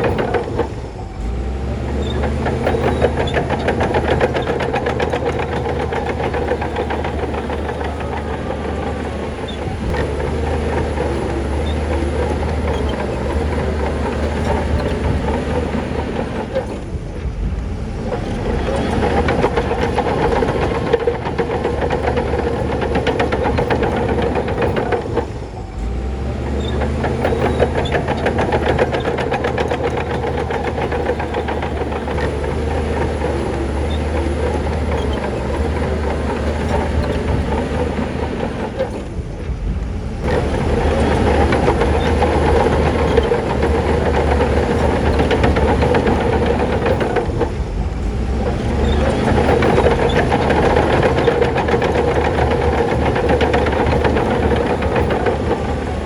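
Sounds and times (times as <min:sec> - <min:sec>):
bulldozer diesel engine running: 0:00.0 - 0:56.0
steel tracks clanking and rattling: 0:00.0 - 0:56.0.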